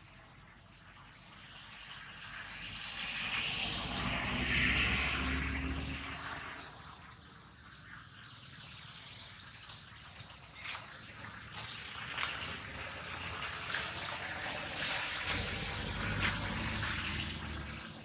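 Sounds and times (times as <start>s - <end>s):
engine passing by: 1.4s - 8.0s, 10.1s - 18.0s.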